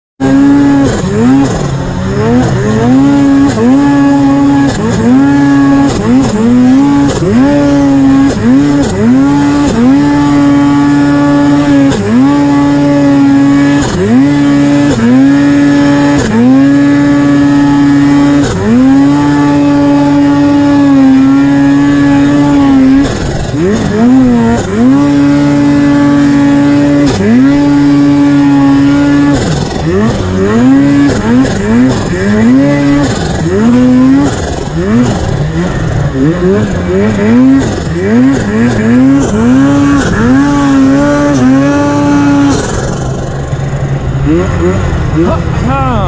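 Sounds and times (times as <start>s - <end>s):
snowmobile engine revving: 0.2s - 46.0s.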